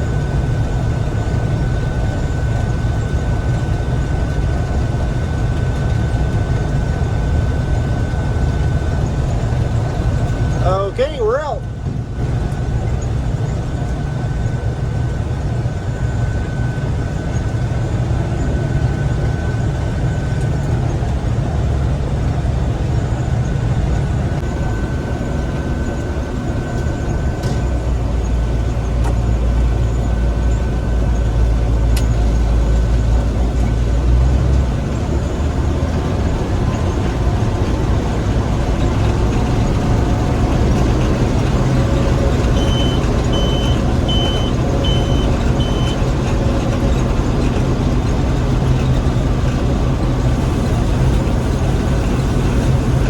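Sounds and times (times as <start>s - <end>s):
combine harvester rumble: 0.0s - 53.0s.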